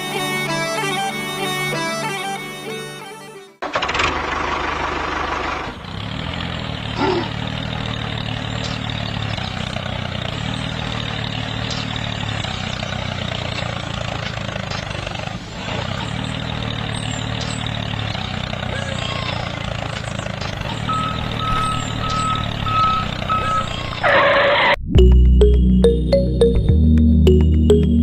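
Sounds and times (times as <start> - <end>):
engine humming: 3.6 - 28.0.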